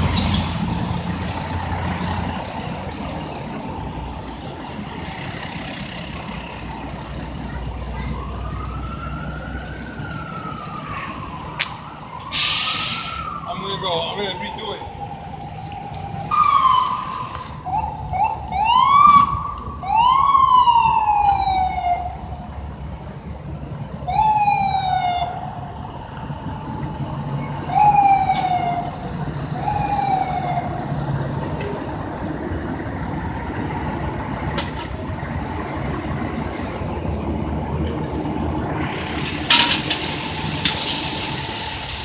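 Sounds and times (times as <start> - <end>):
city traffic noise: 0.0 - 42.0
emergency vehicle siren whooping: 0.0 - 42.0.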